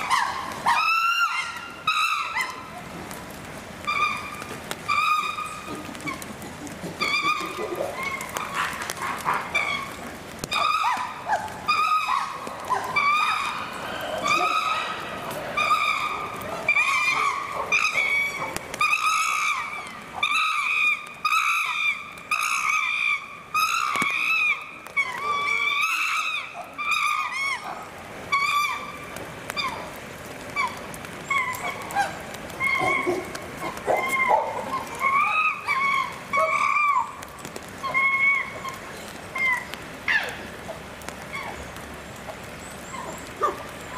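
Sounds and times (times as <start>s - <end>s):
chimpanzees hooting: 3.8s - 28.9s, 29.5s - 40.4s.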